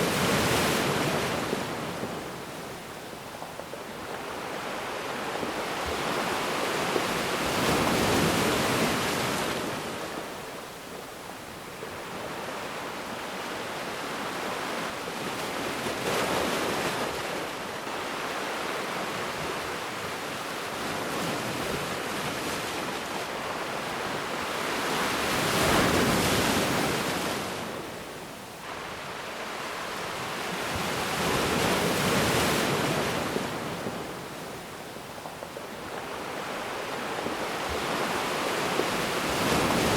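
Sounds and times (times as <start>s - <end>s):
ocean waves washing onto beach: 0.0s - 39.9s.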